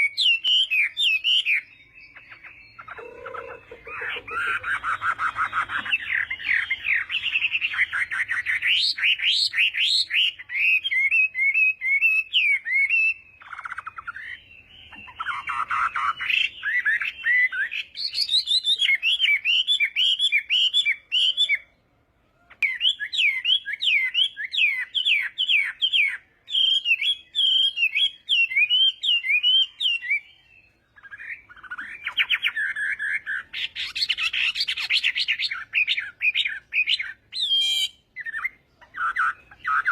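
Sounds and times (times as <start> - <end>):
bird singing whistled trills: 0.0 - 21.8, 22.4 - 39.9.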